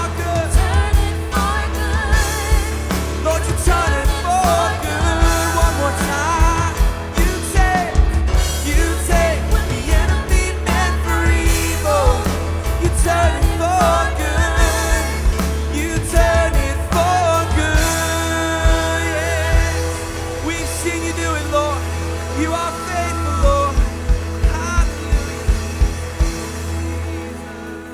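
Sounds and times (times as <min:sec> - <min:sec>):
band playing steady beat: 0:00.0 - 0:27.9
voices singing: 0:00.0 - 0:27.9.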